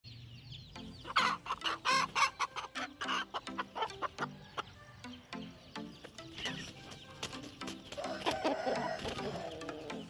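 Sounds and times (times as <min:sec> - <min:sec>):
chickens clucking: 0:00.2 - 0:10.0.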